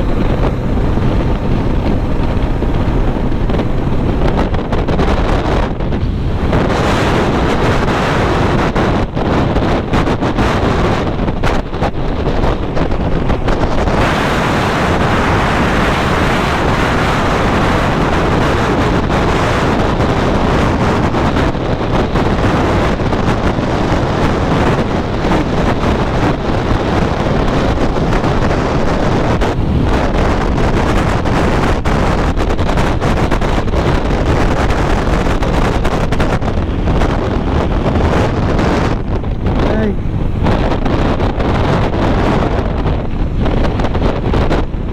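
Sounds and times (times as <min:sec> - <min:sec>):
wind roaring over microphone: 0:00.0 - 0:44.9.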